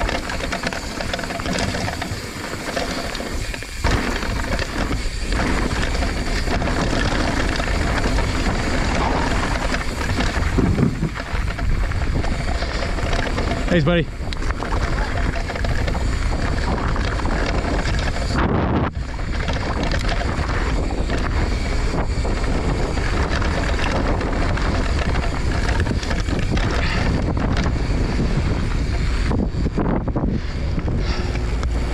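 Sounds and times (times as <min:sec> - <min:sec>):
bike clicks and rattles: 0:00.0 - 0:31.9
bike tyre noise: 0:00.0 - 0:31.9
wind rush on microphone: 0:00.0 - 0:31.9.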